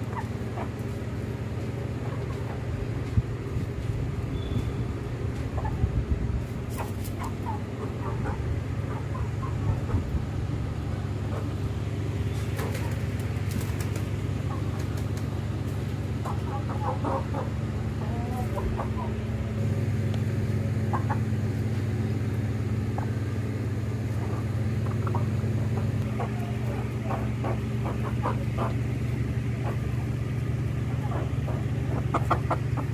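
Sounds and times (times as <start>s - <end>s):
chickens clucking softly: 0.0s - 3.9s, 5.1s - 32.9s
steady low hum: 0.0s - 32.9s.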